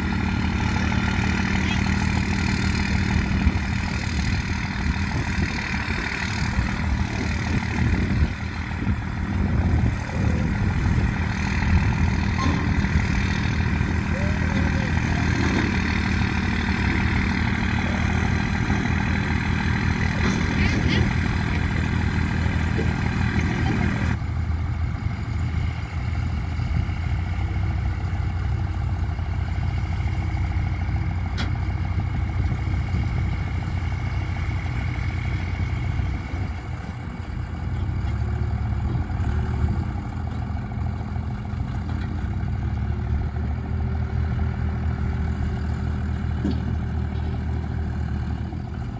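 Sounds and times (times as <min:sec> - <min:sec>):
heavy vehicle engine idling: 0:00.0 - 0:48.9.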